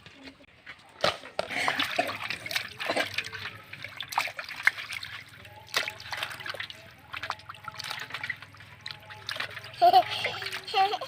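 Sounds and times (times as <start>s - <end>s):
water splashing in a basin: 1.0s - 11.0s.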